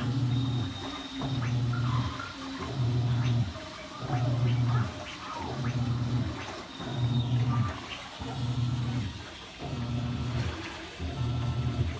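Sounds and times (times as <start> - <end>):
washing machine motor humming: 0.0 - 11.9
water sloshing in drum: 0.0 - 11.9.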